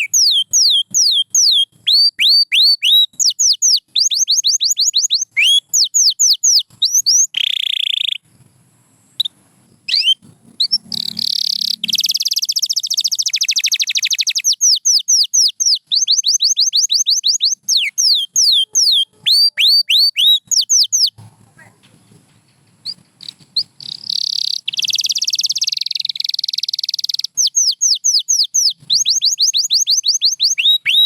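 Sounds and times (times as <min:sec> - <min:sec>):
canary singing: 0:00.0 - 0:08.3, 0:09.2 - 0:22.2, 0:22.8 - 0:31.0.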